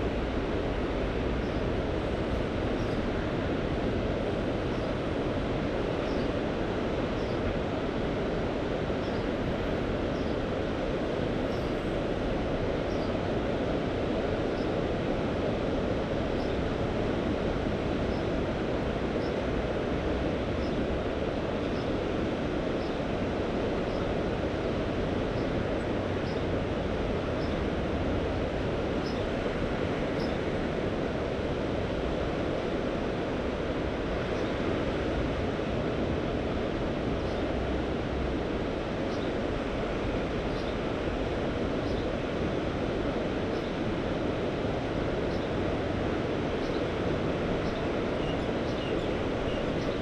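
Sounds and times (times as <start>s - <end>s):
sea surf and wind rushing: 0.0s - 50.0s.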